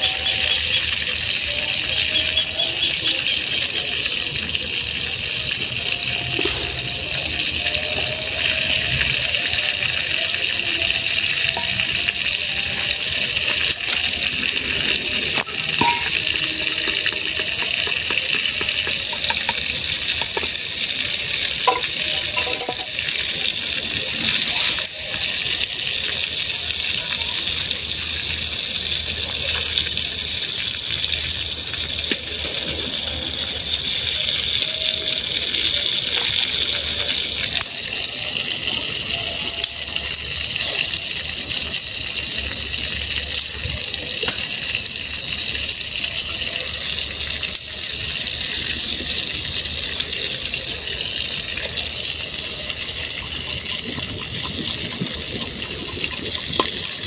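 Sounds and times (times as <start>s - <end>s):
food sizzling in hot oil: 0.0s - 57.0s
oil popping and crackling: 0.0s - 57.0s.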